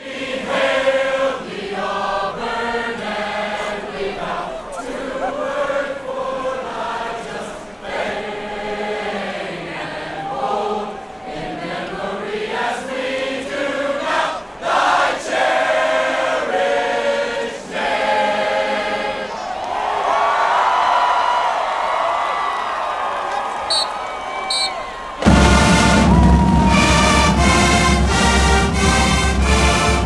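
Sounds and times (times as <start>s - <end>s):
choir singing held notes: 0.0s - 19.6s, 23.7s - 30.0s.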